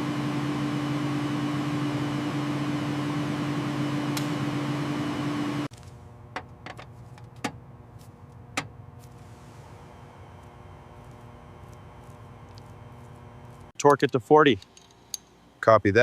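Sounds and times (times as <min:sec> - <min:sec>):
ultrasonic cleaner humming: 0:00.0 - 0:06.6, 0:07.2 - 0:13.7.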